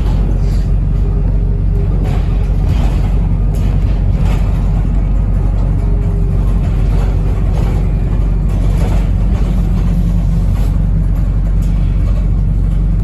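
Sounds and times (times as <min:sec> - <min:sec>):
bus drivetrain drone: 0:00.0 - 0:13.0
road noise: 0:00.0 - 0:13.0.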